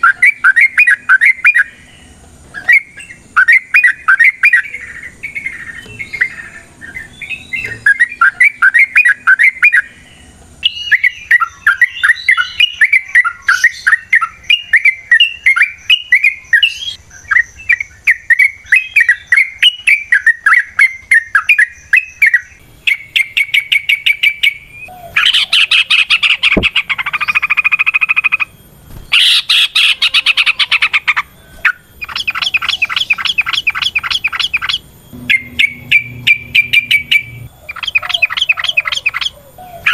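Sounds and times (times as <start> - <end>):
bird singing chirping notes: 0.0 - 39.9.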